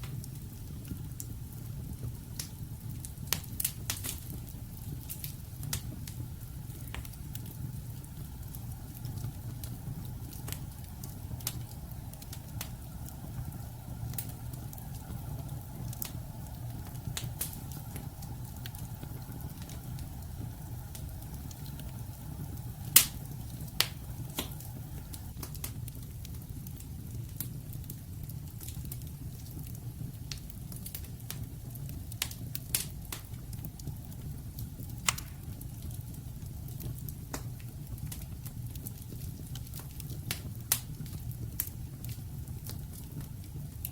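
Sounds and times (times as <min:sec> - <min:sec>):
fire low rumble: 0:00.0 - 0:43.9
wood fire crackling and popping: 0:00.0 - 0:43.9.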